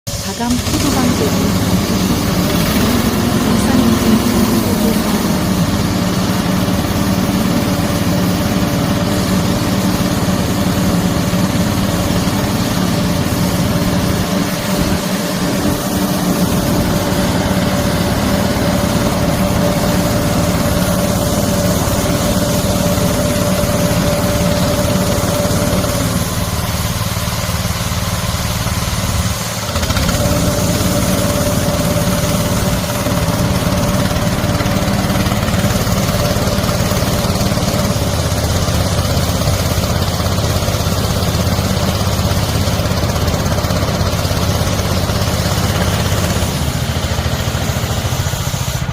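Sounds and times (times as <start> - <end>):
sprayer engine running: 0.1 - 48.9.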